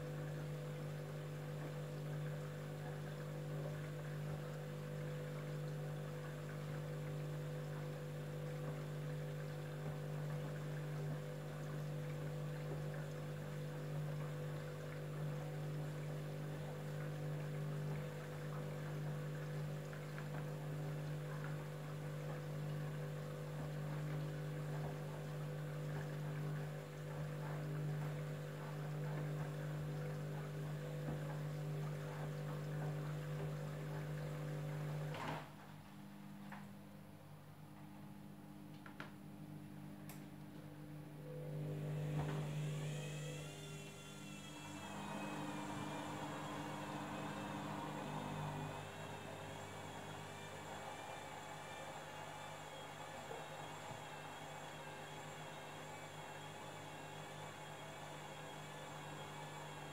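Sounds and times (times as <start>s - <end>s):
washing machine motor hum: 0.0s - 59.9s
water and laundry sloshing: 0.0s - 59.9s.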